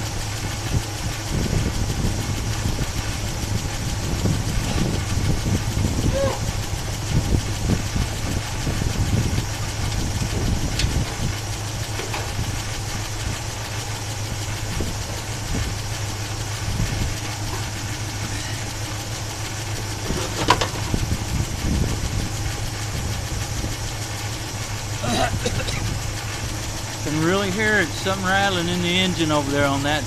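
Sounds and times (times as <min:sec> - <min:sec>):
engine idling with rattle: 0:00.0 - 0:30.0.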